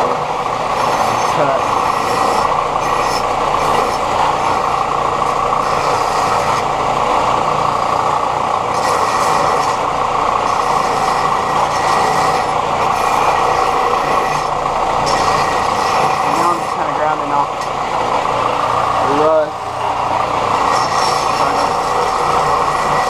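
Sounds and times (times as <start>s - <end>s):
power tool grinding steel: 0.0s - 23.0s.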